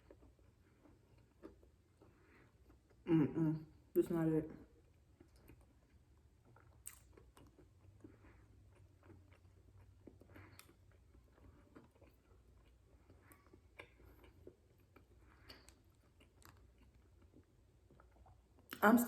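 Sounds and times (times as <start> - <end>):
person chewing with mouth clicks: 0.0 - 3.1, 4.8 - 18.8.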